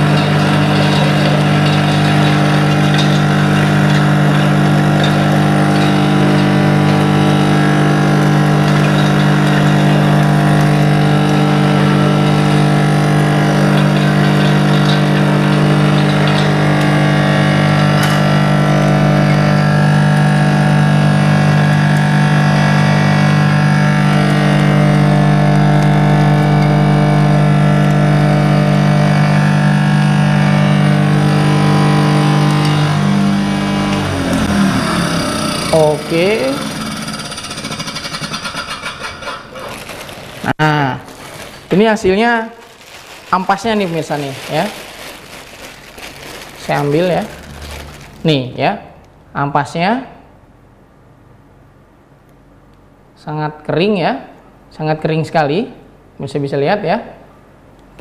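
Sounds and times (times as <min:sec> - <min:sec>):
grinding machine motor hum: 0:00.0 - 0:49.2.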